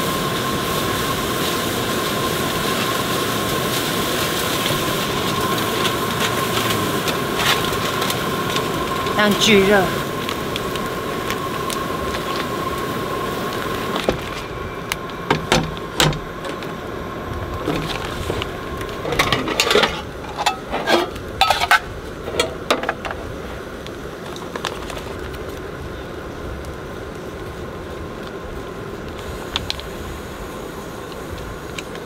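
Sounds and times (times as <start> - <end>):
gas stove burner hissing: 0.0 - 32.0.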